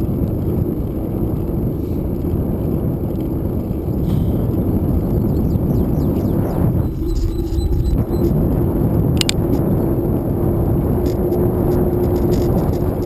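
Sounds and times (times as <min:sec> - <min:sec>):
bicycle tyres rolling on asphalt: 0:00.0 - 0:13.0
wind rush on microphone: 0:00.0 - 0:13.0.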